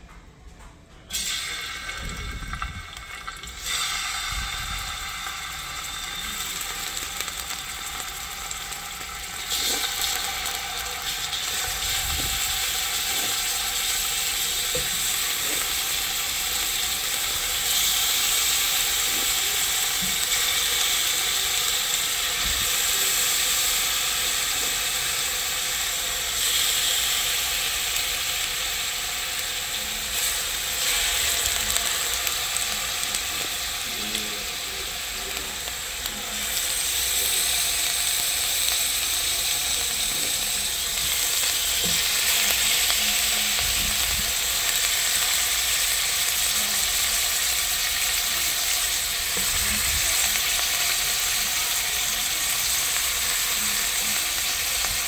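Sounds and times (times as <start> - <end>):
chicken sizzling in hot oil: 1.1 - 55.0.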